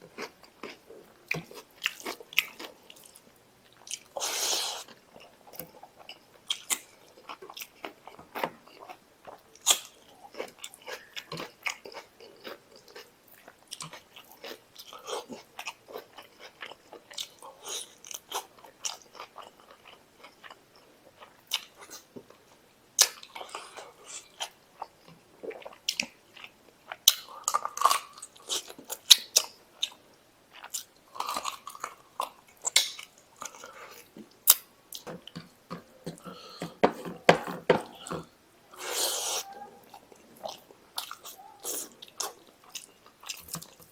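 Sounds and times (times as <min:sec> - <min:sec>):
person chewing and smacking: 0:00.1 - 0:04.2, 0:04.8 - 0:22.4, 0:23.0 - 0:43.9.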